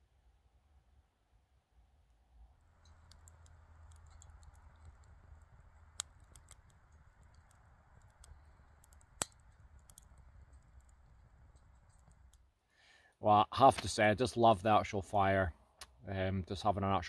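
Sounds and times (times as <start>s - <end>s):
faint steady hiss: 0.0s - 17.0s
wood fire crackling: 2.1s - 16.8s.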